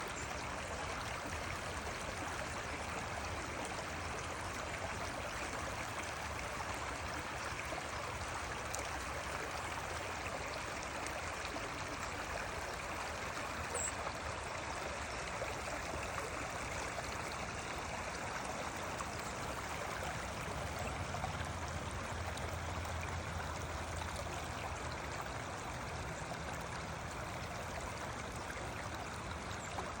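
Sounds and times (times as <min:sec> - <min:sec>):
creek water running: 0:00.0 - 0:30.0.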